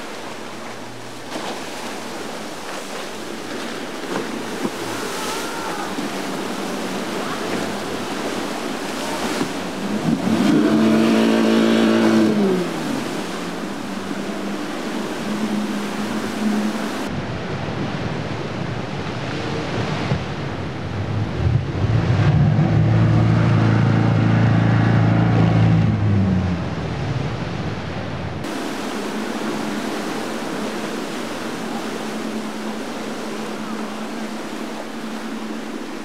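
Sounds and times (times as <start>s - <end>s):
motorboat engines running: 0.0s - 36.0s
water rushing and splashing: 0.0s - 36.0s.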